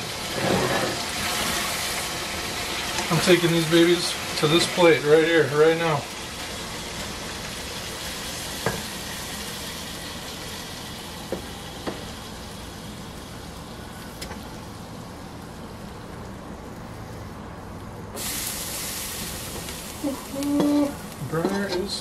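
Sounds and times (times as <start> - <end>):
green beans sizzling in a wok: 0.0 - 16.1, 18.0 - 22.0.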